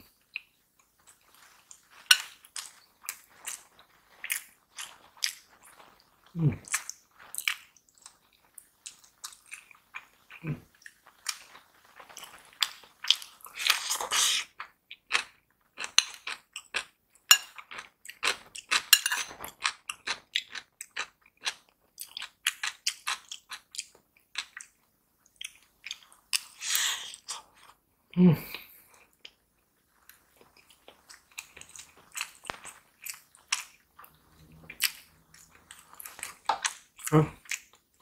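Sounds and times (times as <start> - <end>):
food crunching: 0.0 - 27.8, 28.6 - 38.0.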